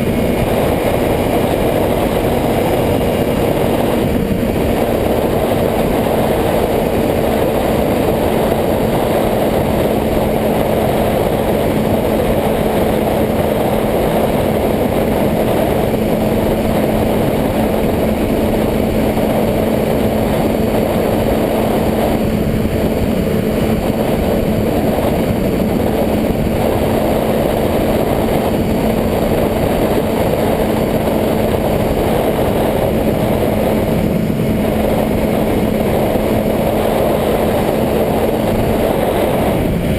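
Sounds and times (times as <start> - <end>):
dense rushing noise: 0.0 - 39.9
motorcycle engine running steadily: 0.0 - 39.9.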